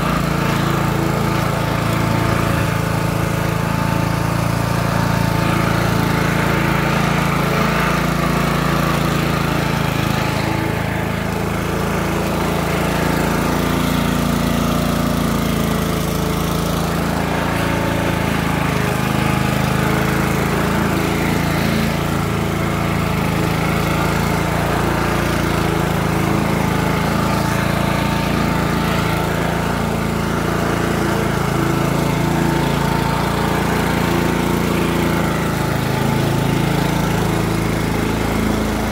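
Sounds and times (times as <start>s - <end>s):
lawn mower engine cutting grass: 0.0s - 38.9s.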